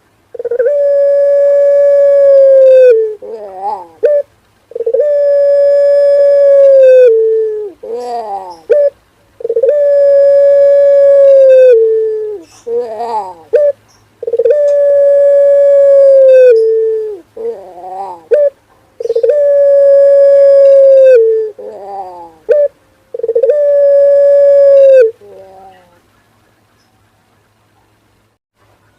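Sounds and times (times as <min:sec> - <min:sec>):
dove cooing: 0:00.3 - 0:26.1.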